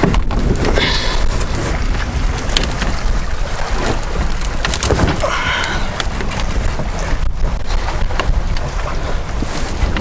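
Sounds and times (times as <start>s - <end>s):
waves slapping against hull: 0.0s - 10.0s
wind buffeting microphone: 0.0s - 10.0s.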